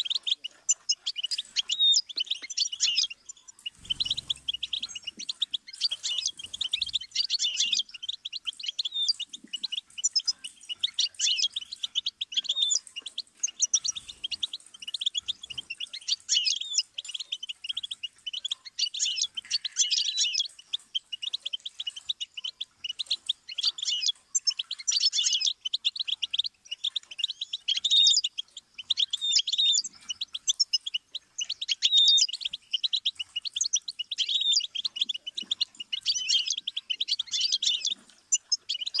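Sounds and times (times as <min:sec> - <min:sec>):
goldfinch singing: 0:00.0 - 0:39.0.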